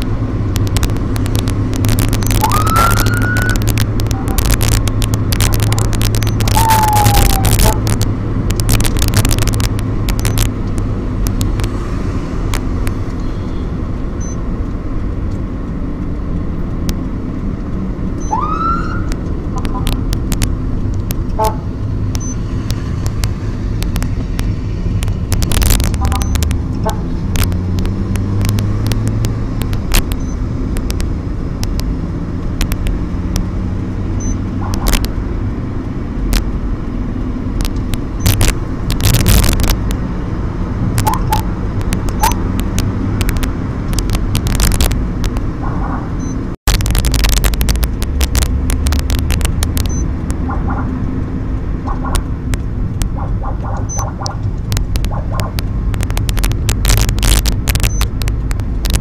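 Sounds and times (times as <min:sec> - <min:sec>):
road noise: 0:00.0 - 0:59.0
vehicle engines rumbling: 0:00.0 - 0:59.0.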